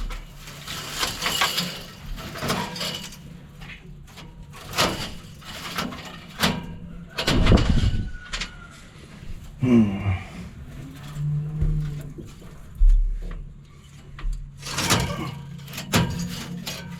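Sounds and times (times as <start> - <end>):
knocks and clanks on metal parts: 0.0 - 8.6, 10.8 - 16.9.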